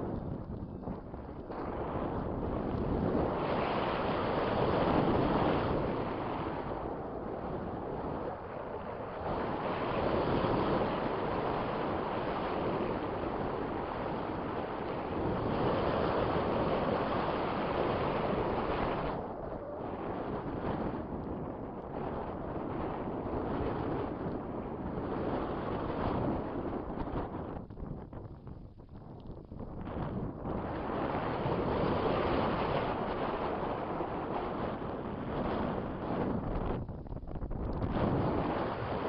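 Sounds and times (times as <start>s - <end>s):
strong wind on microphone: 0.0s - 39.0s.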